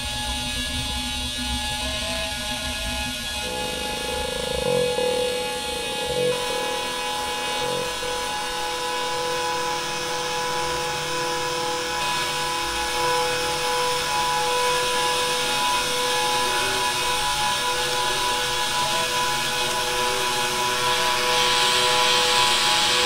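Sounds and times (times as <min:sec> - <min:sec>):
steady whirring drone: 0:00.0 - 0:23.0.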